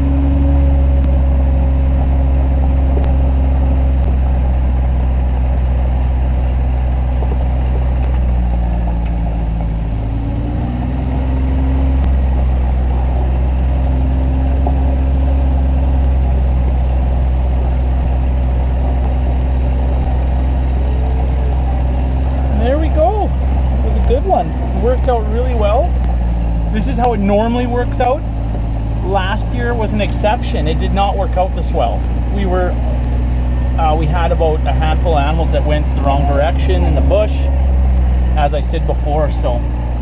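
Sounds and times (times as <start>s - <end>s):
vehicle engine droning: 0.0s - 40.0s.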